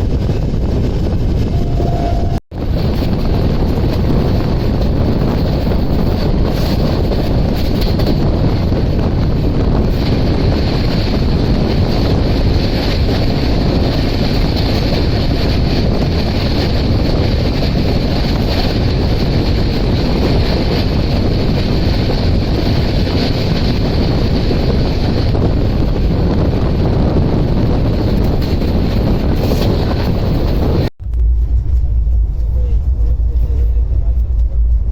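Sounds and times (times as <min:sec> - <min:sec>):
train coach rumbling: 0:00.0 - 0:34.9
wind buffeting microphone: 0:00.0 - 0:34.9.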